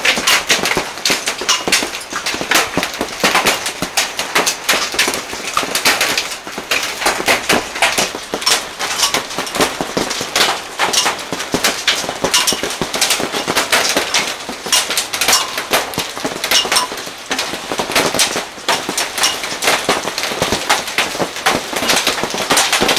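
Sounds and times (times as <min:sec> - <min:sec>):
hail clattering on paving: 0:00.0 - 0:22.9.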